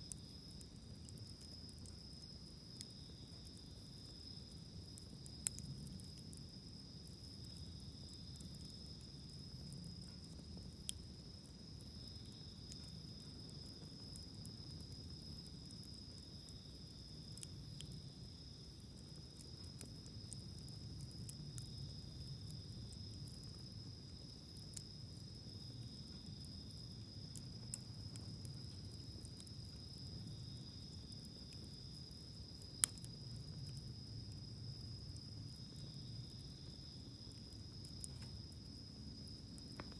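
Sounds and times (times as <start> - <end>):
campfire popping: 0.0 - 39.9
insects trilling: 0.0 - 39.9.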